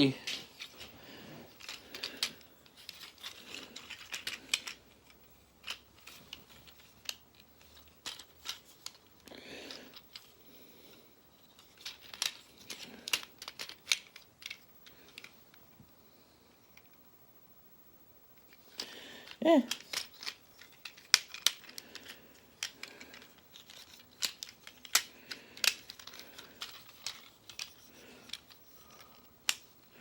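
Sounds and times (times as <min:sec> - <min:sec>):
plastic toy parts clicking: 0:00.0 - 0:10.4, 0:11.4 - 0:15.6, 0:18.4 - 0:29.9
handling rustle: 0:00.0 - 0:15.8, 0:18.4 - 0:30.0.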